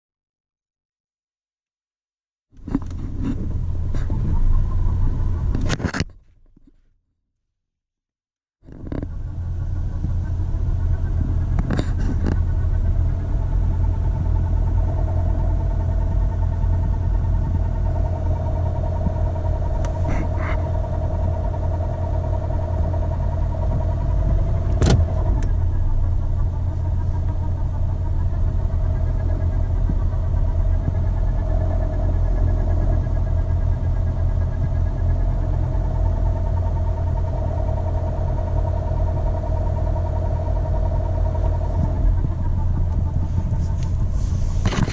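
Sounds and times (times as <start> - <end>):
transmission whine: 2.5 - 6.8, 8.6 - 44.9
heavy low rumble: 2.6 - 6.7, 8.6 - 44.9.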